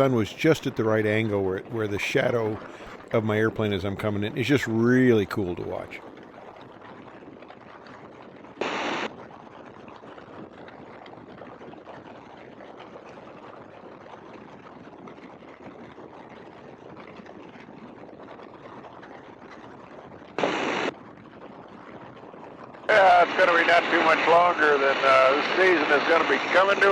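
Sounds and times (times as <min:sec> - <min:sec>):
muffled plane engine and wind drone: 0:00.0 - 0:26.9.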